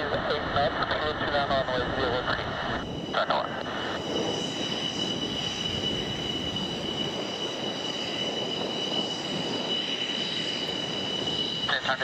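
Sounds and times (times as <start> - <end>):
jet engine roar with whine: 0.0 - 12.0.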